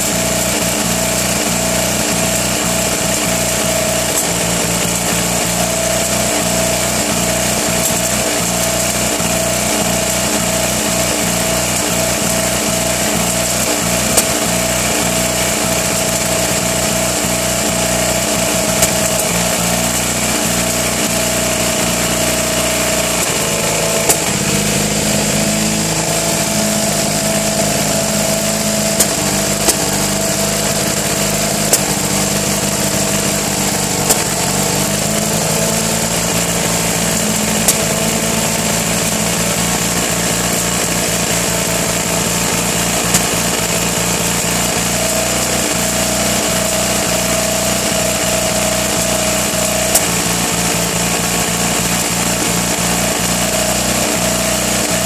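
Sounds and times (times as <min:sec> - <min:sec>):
engine pops: 0:00.0 - 0:55.0
engine running rough: 0:00.0 - 0:55.0.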